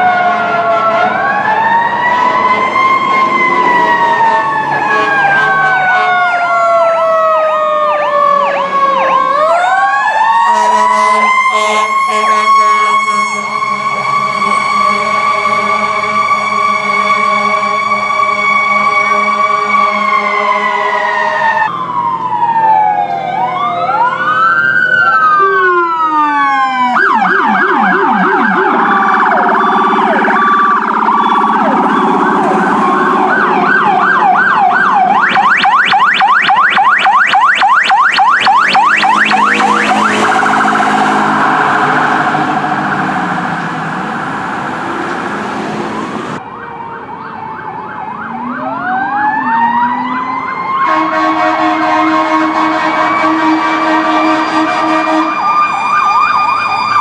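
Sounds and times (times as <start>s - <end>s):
fire truck sirens: 0.0s - 57.0s.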